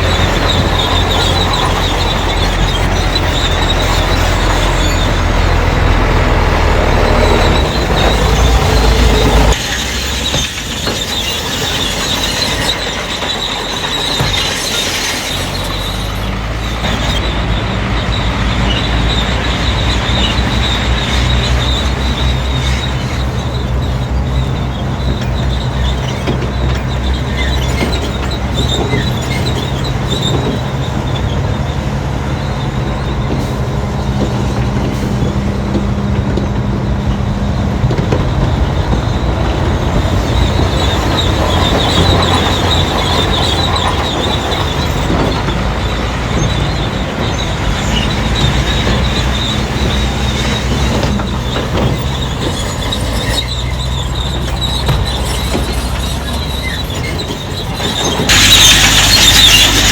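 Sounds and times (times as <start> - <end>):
diesel engine running under load: 0.0 - 59.9
steel tracks squealing: 0.0 - 59.9.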